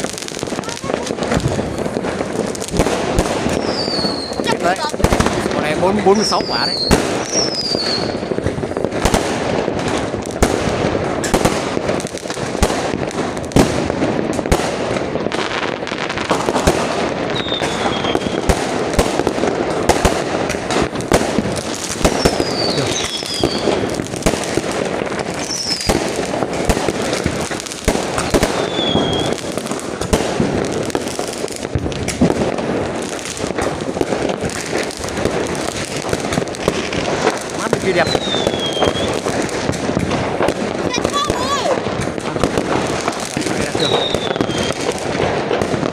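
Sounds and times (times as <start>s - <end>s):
fireworks falling whistles: 0.0s - 9.2s, 15.5s - 45.9s
fireworks bangs and crackles: 0.0s - 45.9s.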